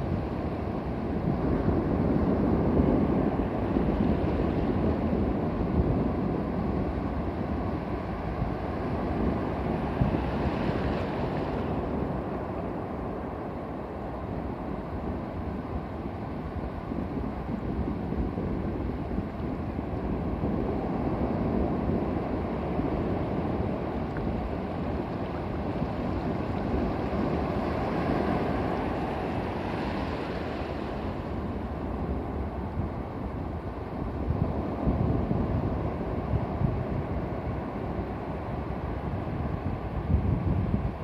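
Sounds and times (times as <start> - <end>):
ocean surf breaking: 0.0 - 41.0
wind buffeting microphone: 0.0 - 41.0.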